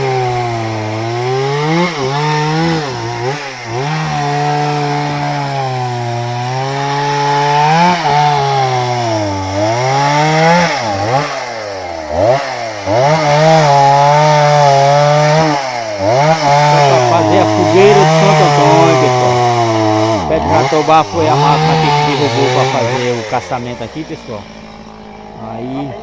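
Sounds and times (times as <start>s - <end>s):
chainsaw cutting log: 0.0s - 26.0s.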